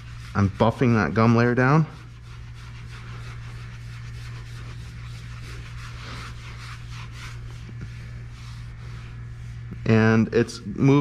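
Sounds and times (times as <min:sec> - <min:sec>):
cloth rubbing on stone: 0:00.0 - 0:11.0
steady low hum: 0:00.0 - 0:11.0.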